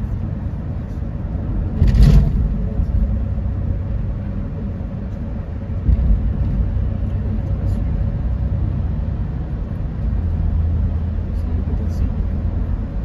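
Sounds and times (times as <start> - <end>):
car driving at highway speed: 0.0 - 13.0.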